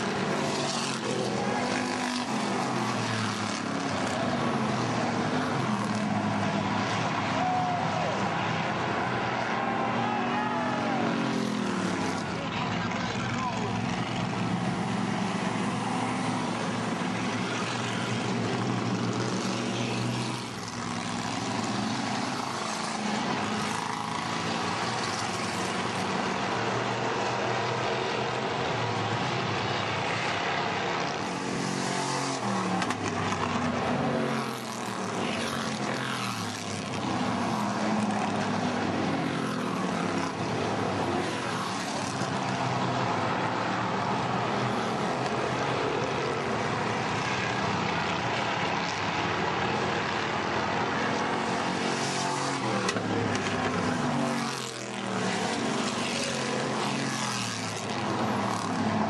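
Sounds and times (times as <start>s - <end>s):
racing car engines passing: 0.0s - 59.0s.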